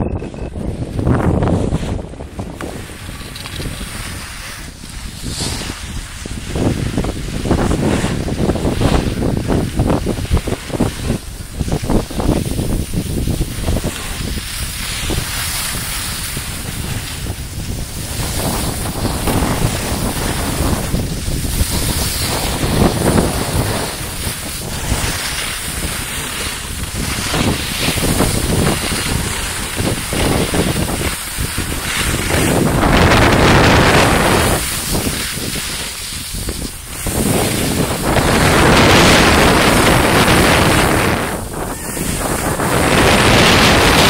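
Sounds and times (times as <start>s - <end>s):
wind rushing over microphone: 0.0s - 44.0s
skis scraping over snow: 0.6s - 44.0s.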